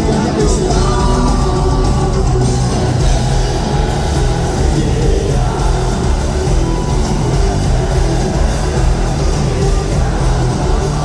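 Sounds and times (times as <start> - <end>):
rock band playing live: 0.0 - 11.0
steady drum beat: 0.0 - 11.0.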